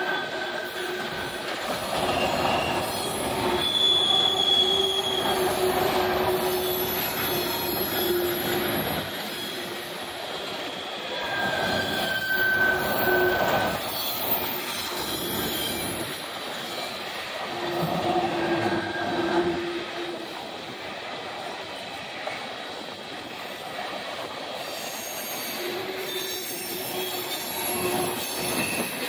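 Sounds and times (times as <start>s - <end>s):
high-pitched wheel squeals: 0.0s - 20.0s, 24.7s - 29.0s
freight train wheels rumbling: 0.0s - 29.0s.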